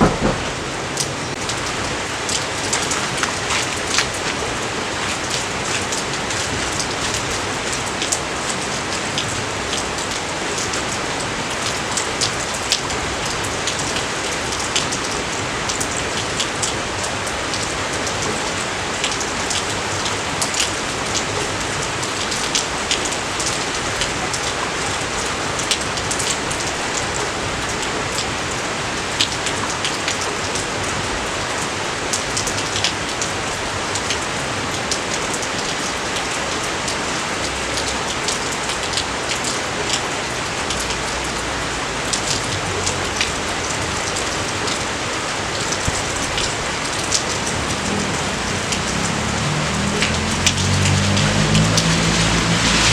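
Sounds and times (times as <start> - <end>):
raindrops ticking: 0.0 - 52.9
steady rain hiss: 0.0 - 52.9.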